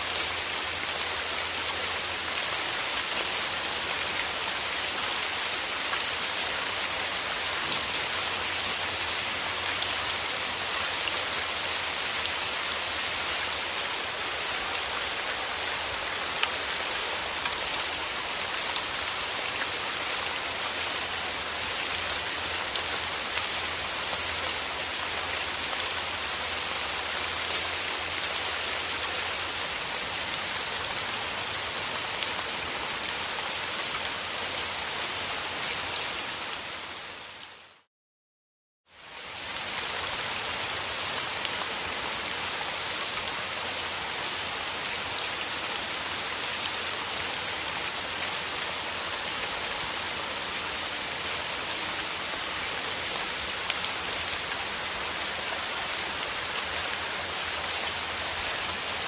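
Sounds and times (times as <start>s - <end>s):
steady rain falling: 0.0s - 37.9s, 38.9s - 59.0s.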